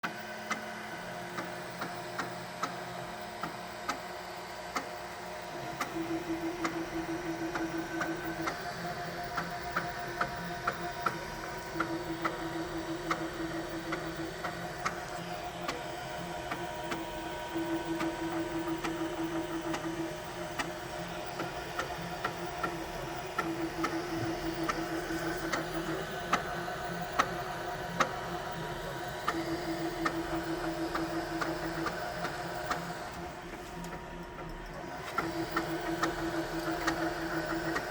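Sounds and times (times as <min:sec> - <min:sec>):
printer motors humming: 0:00.0 - 0:37.9.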